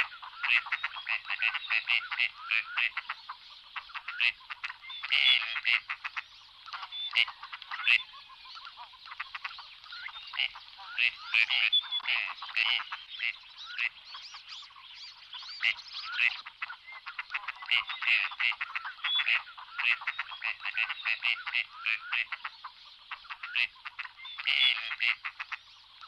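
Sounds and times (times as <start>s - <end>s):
ducks croaking calls: 0.0s - 26.0s.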